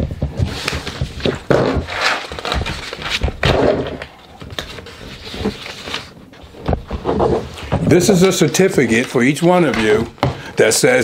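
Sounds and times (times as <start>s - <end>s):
rustling handling noise: 0.0s - 11.0s
pencils clicking and knocking: 0.2s - 10.4s.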